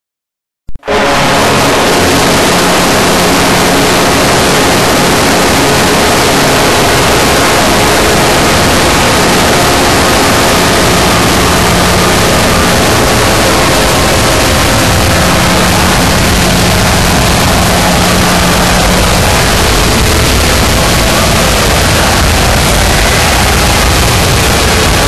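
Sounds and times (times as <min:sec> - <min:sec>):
goal horn: 0:00.7 - 0:25.0
dense wash of noise: 0:00.8 - 0:25.0.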